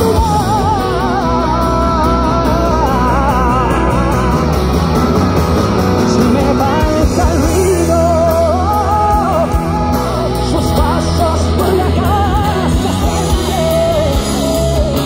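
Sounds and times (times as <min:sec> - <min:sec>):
man singing: 0:00.0 - 0:05.2, 0:05.9 - 0:15.0
pop-rock band playing: 0:00.0 - 0:15.0.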